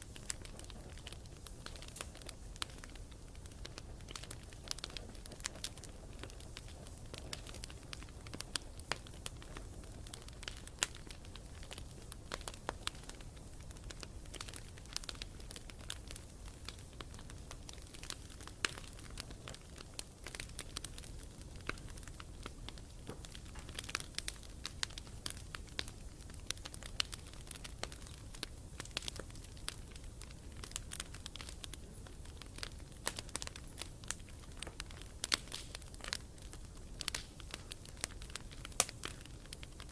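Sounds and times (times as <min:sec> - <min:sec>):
campfire crackling and popping: 0:00.0 - 0:39.9
rumble of flames: 0:00.0 - 0:39.9.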